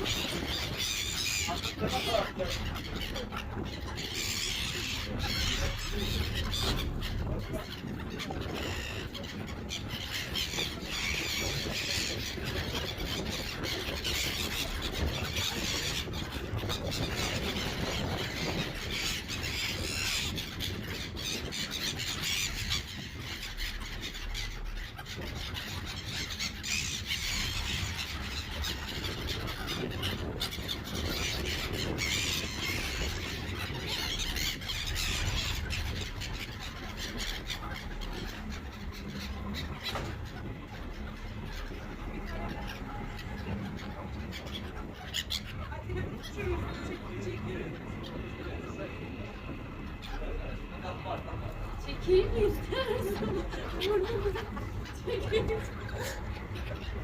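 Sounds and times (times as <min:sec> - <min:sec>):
gulls calling and squealing: 0:00.0 - 0:57.0
low steady rumble: 0:00.0 - 0:57.0.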